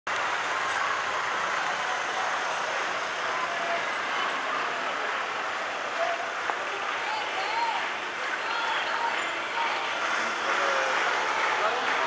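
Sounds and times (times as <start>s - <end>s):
car moving slowly: 0.1s - 12.0s.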